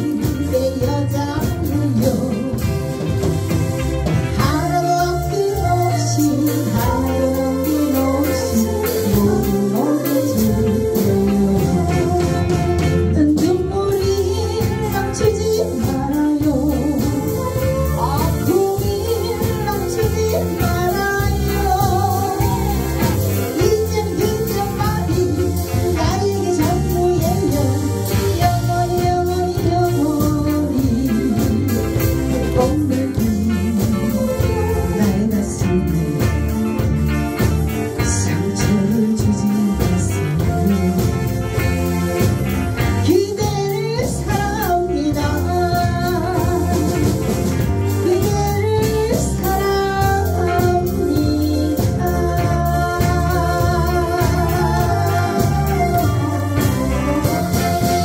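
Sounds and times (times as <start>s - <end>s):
live band playing: 0.0s - 58.0s
woman singing: 0.0s - 58.0s.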